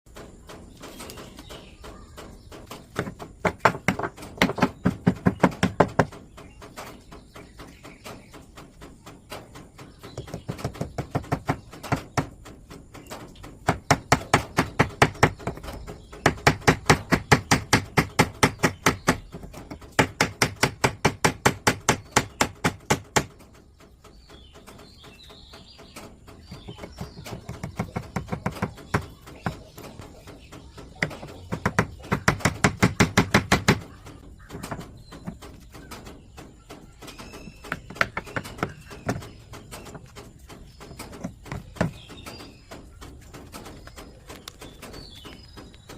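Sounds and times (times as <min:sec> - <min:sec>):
rapid strikes on wood: 0:00.1 - 0:45.9.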